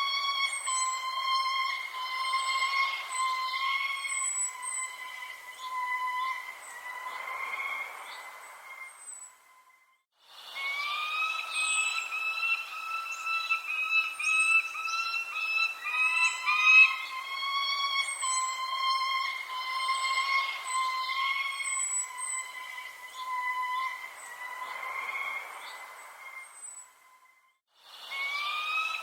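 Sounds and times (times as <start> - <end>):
high falling bird chirps: 0.0 - 29.0
wavering whistled tone: 0.0 - 29.0.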